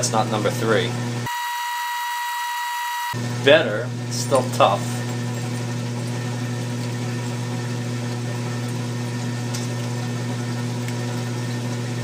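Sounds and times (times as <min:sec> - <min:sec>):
low machine hum: 0:00.0 - 0:01.3, 0:02.6 - 0:12.0.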